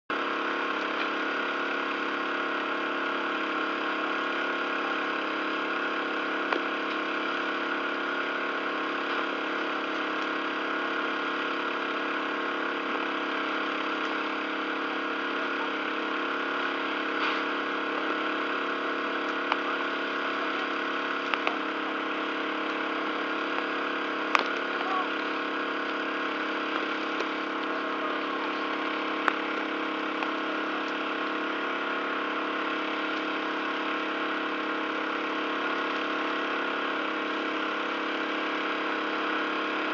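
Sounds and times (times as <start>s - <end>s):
steady engine-like drone: 0.1s - 39.9s.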